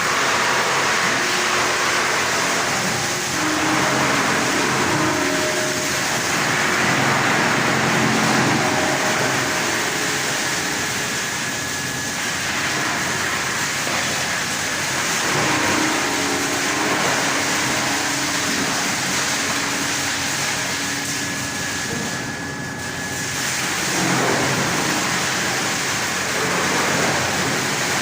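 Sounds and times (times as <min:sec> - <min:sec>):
wood chipper running: 0:00.0 - 0:28.0.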